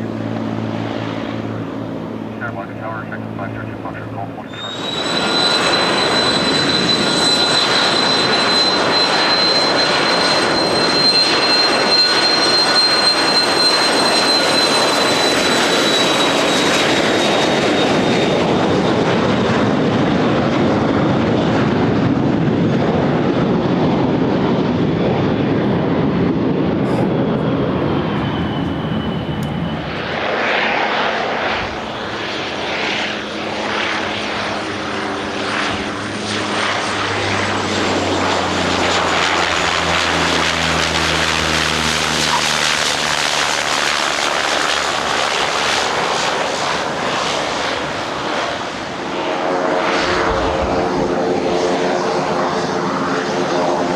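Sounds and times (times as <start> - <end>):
jet engines roaring: 0.0 - 53.9
rough fluttering engine noise: 0.0 - 53.9.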